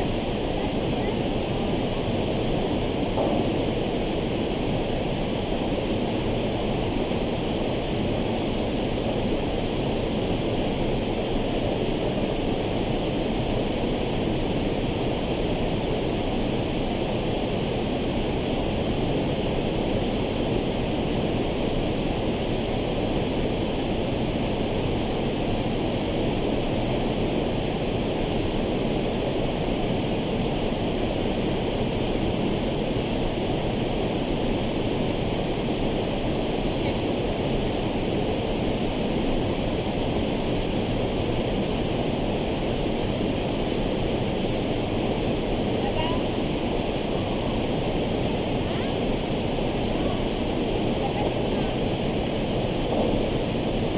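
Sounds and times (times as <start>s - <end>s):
waterfall rushing over rock: 0.0s - 53.9s.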